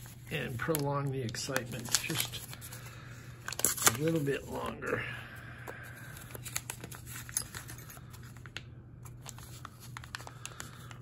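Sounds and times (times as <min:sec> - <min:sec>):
packing material rustling: 0:00.0 - 0:04.8, 0:06.0 - 0:11.0.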